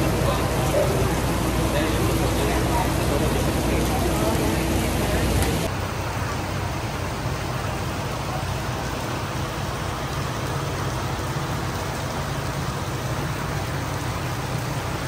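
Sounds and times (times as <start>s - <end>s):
heavy rain: 0.0s - 15.0s
vehicle engine humming: 0.0s - 15.0s.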